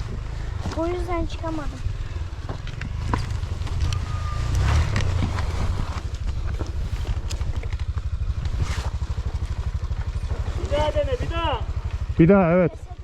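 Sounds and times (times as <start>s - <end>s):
off-road motorcycle engine running: 0.0s - 13.0s.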